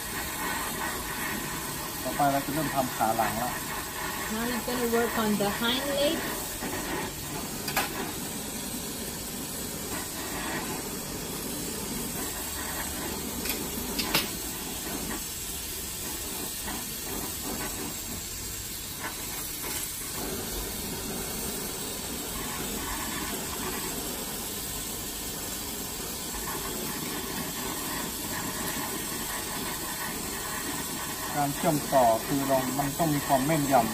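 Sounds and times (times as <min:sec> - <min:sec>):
torch flame hissing: 0:00.0 - 0:33.9.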